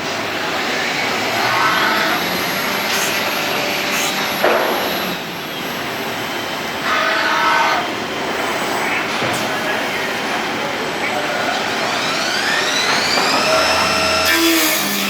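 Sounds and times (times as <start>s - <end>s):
wood lathe whirring: 0.0s - 15.0s.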